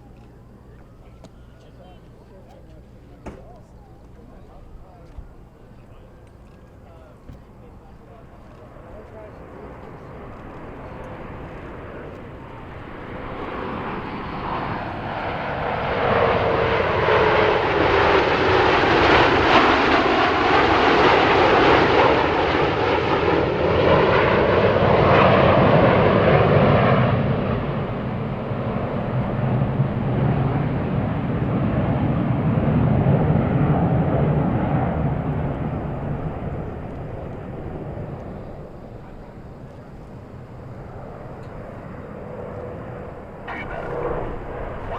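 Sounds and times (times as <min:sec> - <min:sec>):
jet aircraft flying past: 0:00.0 - 0:44.9.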